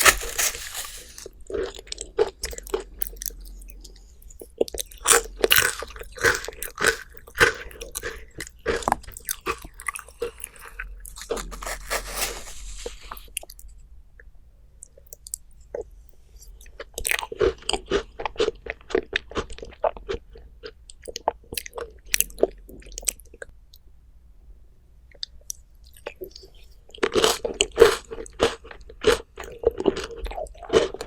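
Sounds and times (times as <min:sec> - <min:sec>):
crunching and chewing food: 0:00.0 - 0:13.8, 0:14.8 - 0:23.8, 0:25.1 - 0:31.0.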